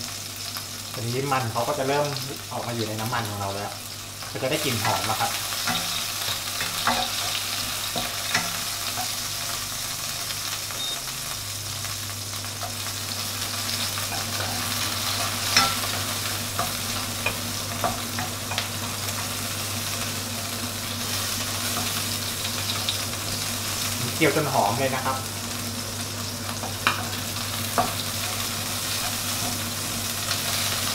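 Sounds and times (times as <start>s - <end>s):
shrimp sizzling in hot oil: 0.0s - 30.9s.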